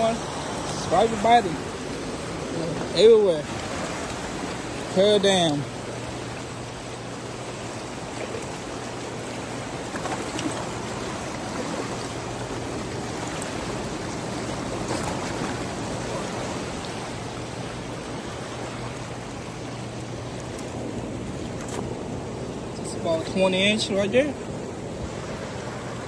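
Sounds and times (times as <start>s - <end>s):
turbulent water rushing: 0.0s - 26.0s.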